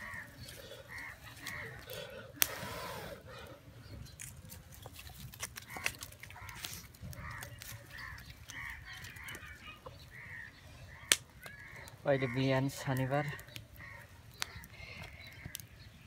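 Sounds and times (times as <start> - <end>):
birds calling: 0.0 - 16.0
wood fire crackling: 0.0 - 16.0.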